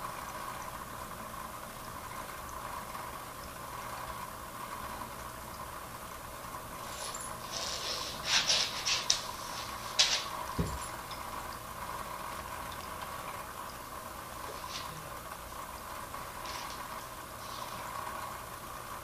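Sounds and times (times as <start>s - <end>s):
aquarium hum: 0.0s - 19.0s.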